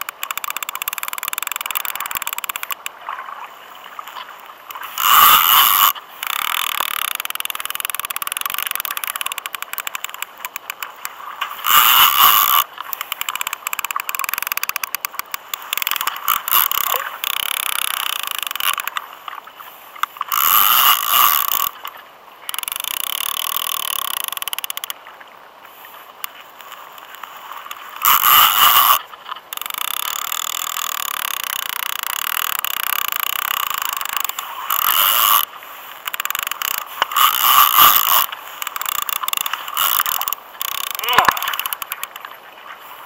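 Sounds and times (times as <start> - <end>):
fishing reel ratchet running: 0.0 - 3.0, 3.9 - 19.2, 20.0 - 25.0, 26.2 - 42.3.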